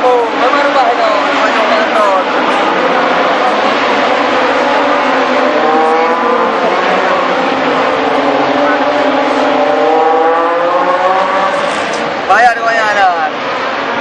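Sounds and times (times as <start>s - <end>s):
racing motorcycles passing: 0.0s - 14.0s.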